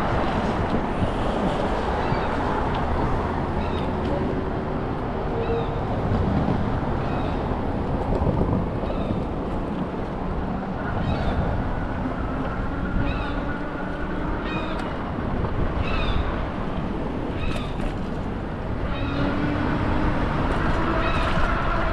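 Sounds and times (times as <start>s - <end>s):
low traffic rumble: 0.0s - 21.9s.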